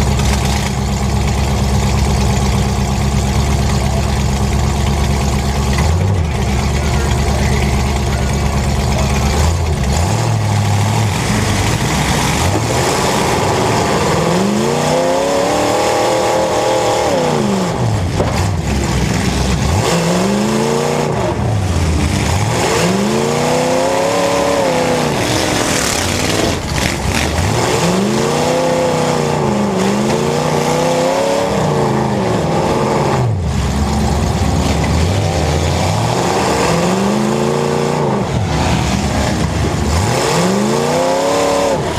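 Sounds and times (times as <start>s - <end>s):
car engines revving hard: 0.0s - 41.9s.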